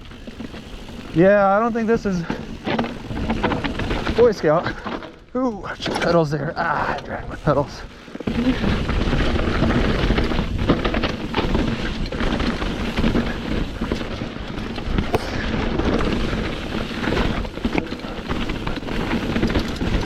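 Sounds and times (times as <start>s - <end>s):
tyres crunching over rock: 0.0s - 6.4s, 7.9s - 20.0s
bike frame and chain rattling: 0.0s - 20.0s.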